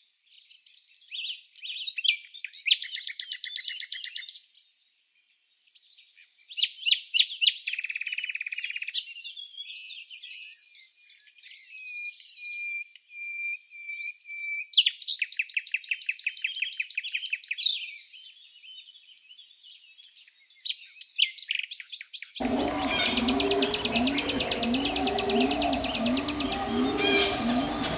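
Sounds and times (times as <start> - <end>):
songbirds singing and chirping: 0.0 - 13.1, 14.7 - 27.9.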